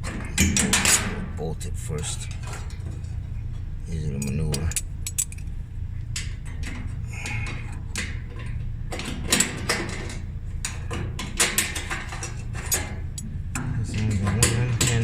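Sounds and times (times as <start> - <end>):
metal parts clicking and clanking: 0.0 - 15.0
steady low hum: 0.0 - 15.0.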